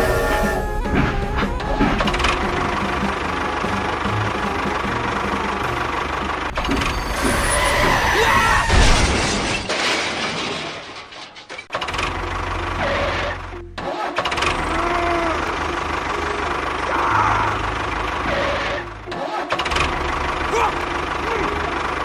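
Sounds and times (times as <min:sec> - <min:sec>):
engine running: 0:00.0 - 0:08.0, 0:11.9 - 0:22.0.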